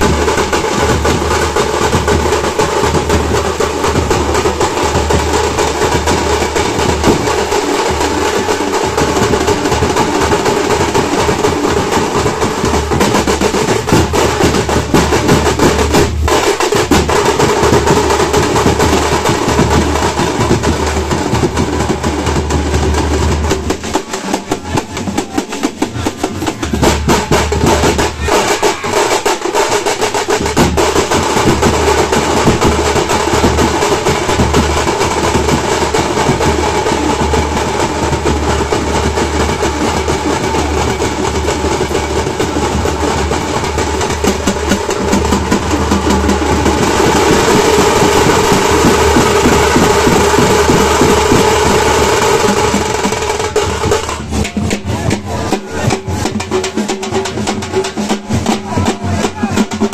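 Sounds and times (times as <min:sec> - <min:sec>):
frame drums beaten fast: 0:00.0 - 0:59.9.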